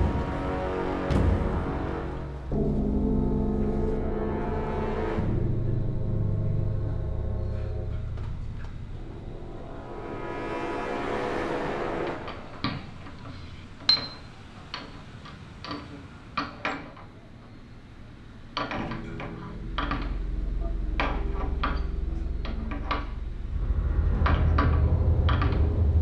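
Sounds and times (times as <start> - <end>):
low steady drone: 0.0 - 15.0, 17.9 - 26.0.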